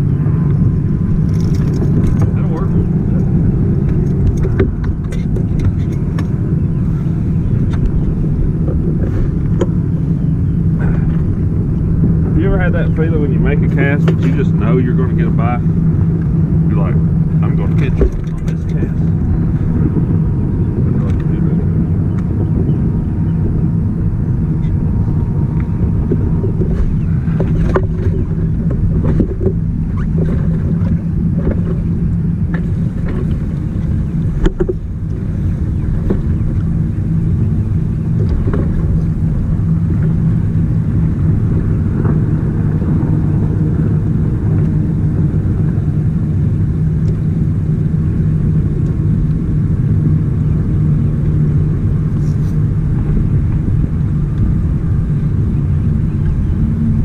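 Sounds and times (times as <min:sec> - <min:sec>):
boat motor rumbling: 0:00.0 - 0:57.0.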